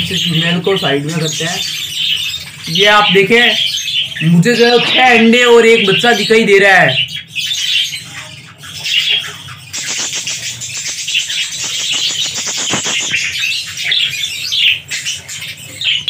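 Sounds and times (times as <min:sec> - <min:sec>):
budgerigars chattering and squawking: 0:00.0 - 0:16.0.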